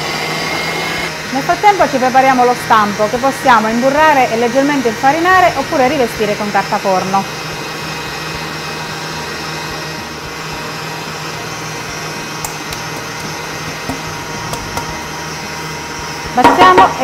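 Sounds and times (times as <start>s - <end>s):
stand mixer whisking: 0.0s - 17.0s.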